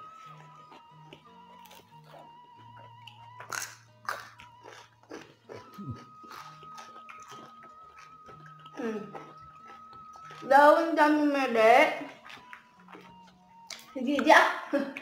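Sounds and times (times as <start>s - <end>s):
biting and crunching with chewing: 0.0s - 11.1s, 11.9s - 14.3s.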